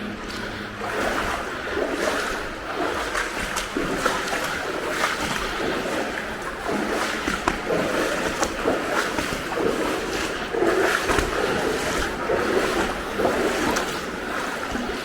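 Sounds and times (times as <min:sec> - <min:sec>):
boots sloshing through water: 0:00.2 - 0:15.0.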